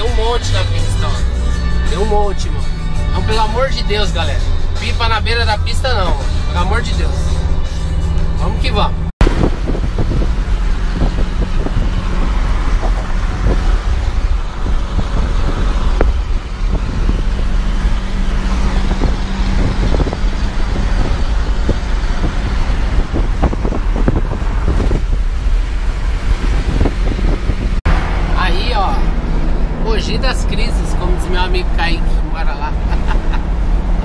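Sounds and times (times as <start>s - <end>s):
road noise: 0.0s - 34.0s
truck engine drone: 0.0s - 34.0s.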